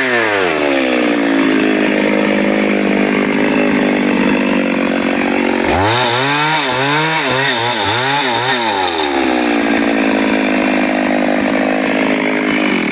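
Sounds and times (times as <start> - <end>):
chainsaw engine revving: 0.0 - 12.9.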